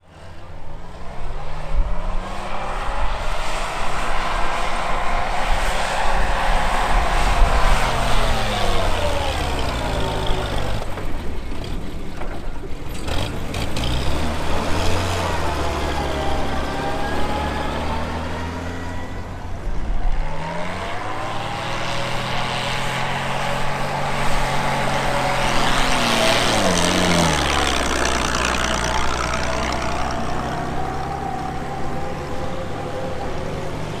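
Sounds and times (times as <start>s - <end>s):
truck engine labouring uphill: 0.0s - 34.0s.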